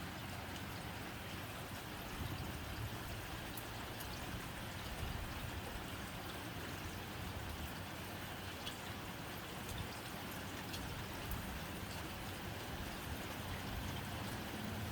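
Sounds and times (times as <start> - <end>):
rain on a tin roof: 0.0 - 14.9.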